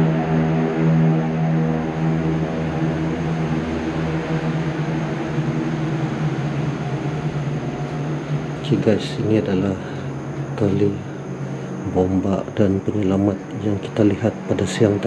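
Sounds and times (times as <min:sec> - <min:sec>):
low mechanical drone with hiss: 0:00.0 - 0:15.0.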